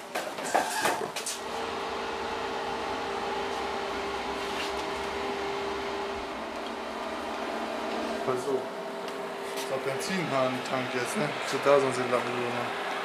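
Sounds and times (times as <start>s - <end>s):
welding machine humming: 0.7s - 13.0s.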